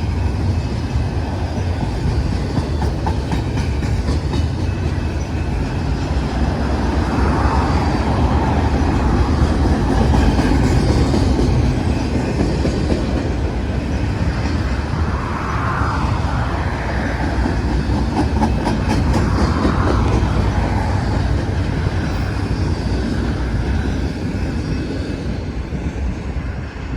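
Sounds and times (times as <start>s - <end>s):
freight train wheels rumbling: 0.0s - 26.9s.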